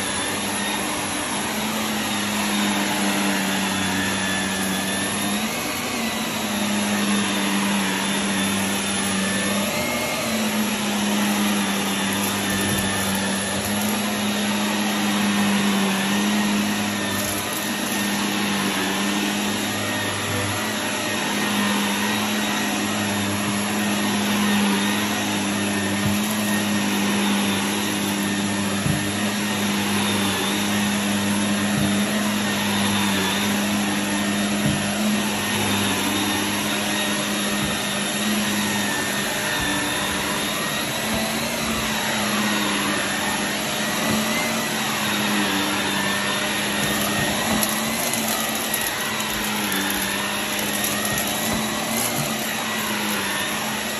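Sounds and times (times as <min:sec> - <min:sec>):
vacuum cleaner running on carpet: 0:00.0 - 0:53.9.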